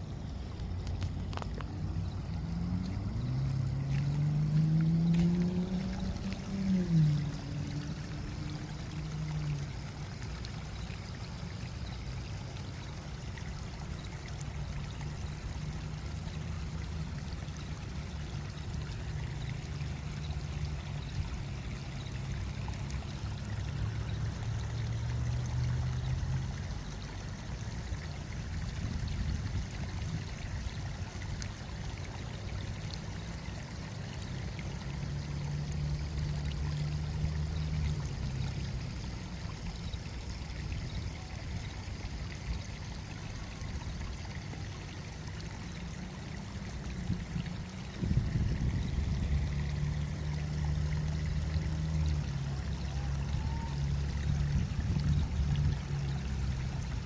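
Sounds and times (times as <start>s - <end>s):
fountain water splashing: 0.0s - 57.0s.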